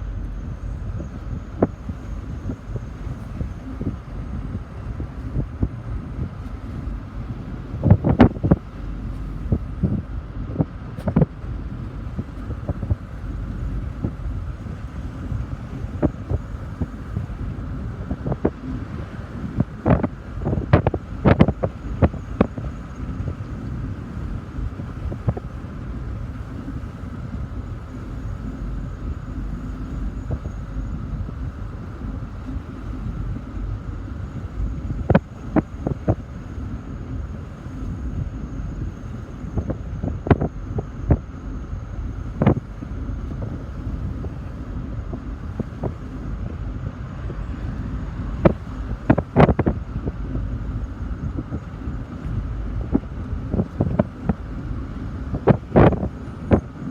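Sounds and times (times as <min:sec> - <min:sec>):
low rumble: 0:00.0 - 0:56.9
wind buffeting microphone: 0:00.0 - 0:56.9.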